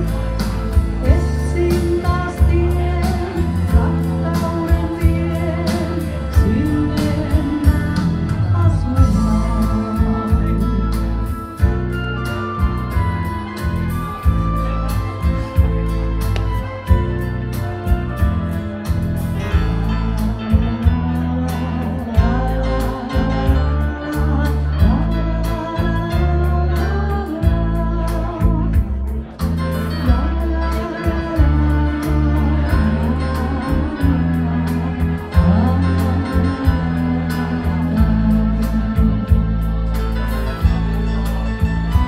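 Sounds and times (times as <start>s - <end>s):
woman singing into a microphone: 0.0s - 13.1s, 19.5s - 42.0s
instrumental backing with heavy bass: 0.0s - 42.0s.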